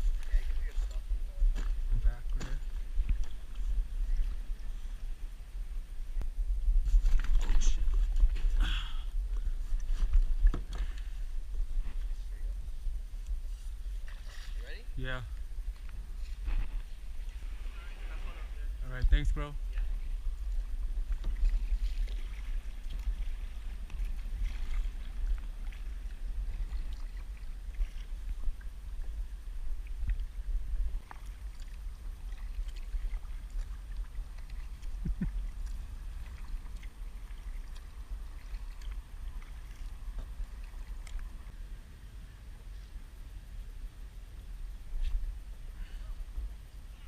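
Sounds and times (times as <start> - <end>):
paddle strokes: 0.0 - 18.8, 19.4 - 42.0
water sloshing against hull: 0.0 - 42.0.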